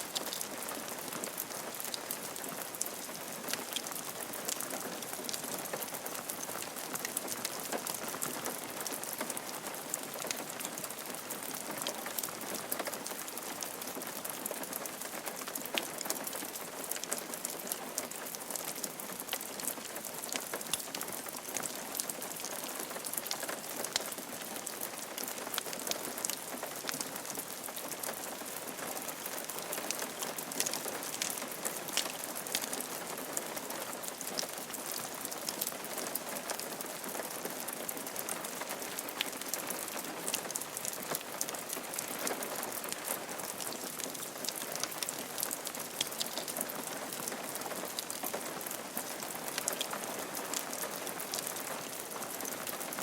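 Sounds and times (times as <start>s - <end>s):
rain falling on a roof: 0.0s - 53.0s.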